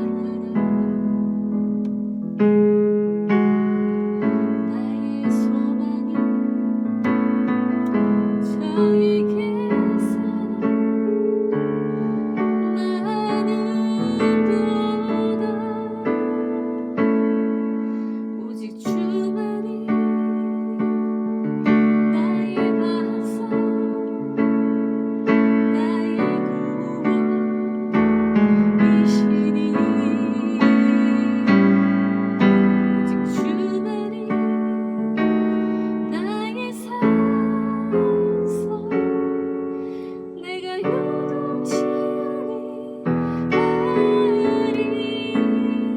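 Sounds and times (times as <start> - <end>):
hymn on keyboard piano: 0.0 - 45.9.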